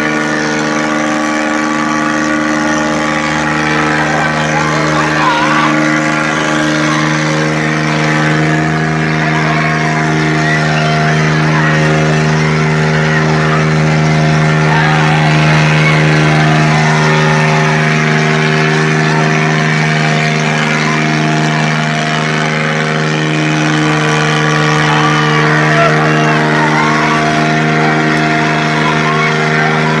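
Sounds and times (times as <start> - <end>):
diesel tractor engine at high revs: 0.0 - 30.0.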